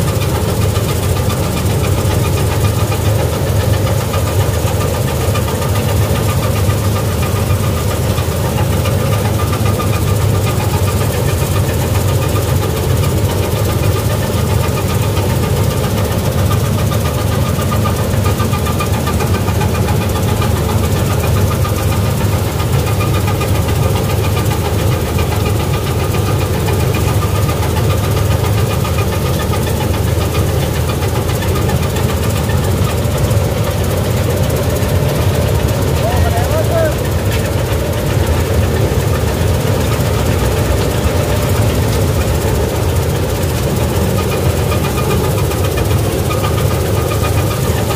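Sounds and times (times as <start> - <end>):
combine harvester engine drone: 0.0 - 47.9.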